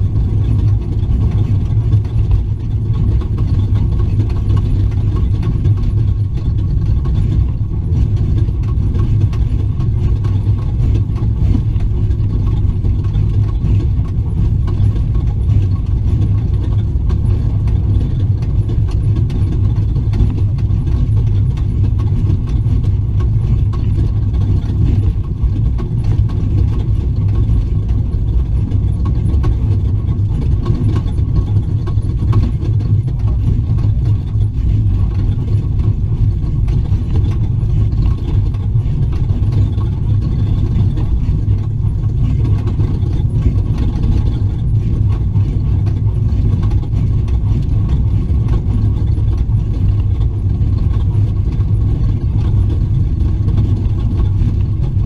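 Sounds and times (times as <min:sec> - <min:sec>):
truck engine and drivetrain drone: 0:00.0 - 0:55.0.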